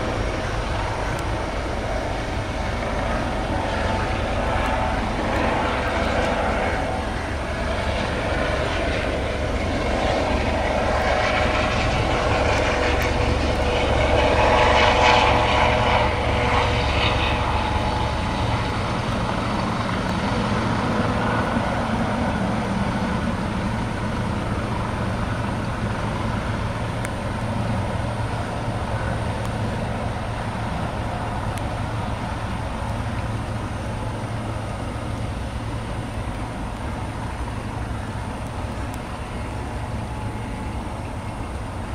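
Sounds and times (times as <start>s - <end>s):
jet engines passing: 0.0s - 41.9s.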